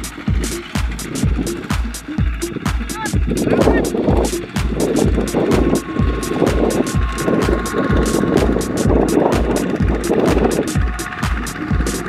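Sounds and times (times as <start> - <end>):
background music with steady beat: 0.0 - 12.0
tractor engine under load: 0.0 - 12.0.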